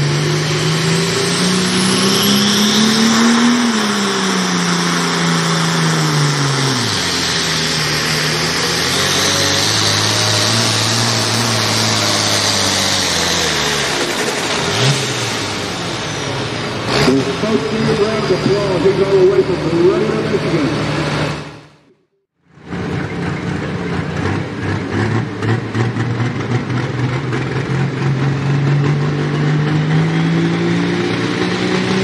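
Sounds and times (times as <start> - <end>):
diesel tractor engine under load: 0.0 - 32.0.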